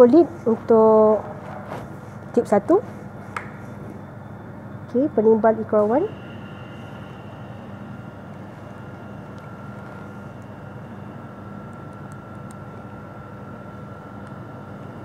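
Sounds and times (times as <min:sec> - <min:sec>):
faint high whine: 0:00.0 - 0:15.0
machinery hum: 0:00.0 - 0:15.0.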